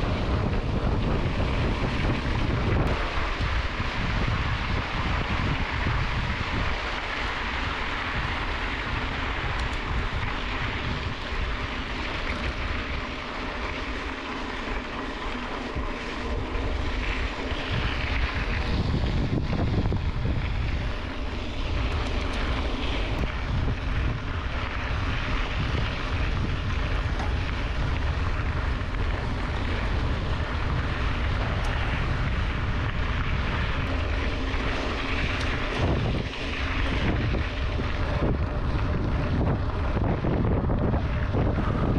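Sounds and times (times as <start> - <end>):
bike tyres rolling on dirt road: 0.0 - 41.9
wind buffeting microphone: 0.0 - 41.9.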